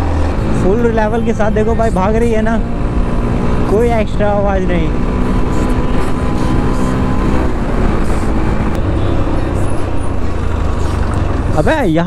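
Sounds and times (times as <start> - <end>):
motorcycle engine at full throttle: 0.0 - 12.0
road and wind rush: 0.0 - 12.0.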